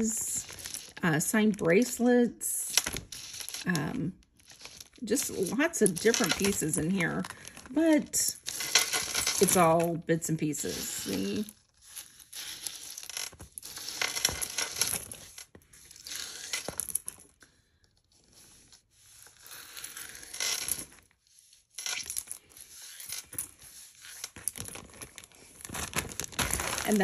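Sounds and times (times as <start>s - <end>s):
jewelry and glass beads clinking: 0.0s - 17.4s, 19.4s - 21.0s, 21.8s - 25.2s.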